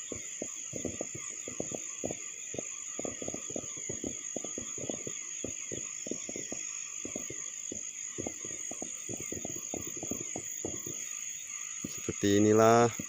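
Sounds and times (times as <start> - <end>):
distant fireworks pops and bangs: 0.0 - 13.0
night insects droning: 0.0 - 13.0.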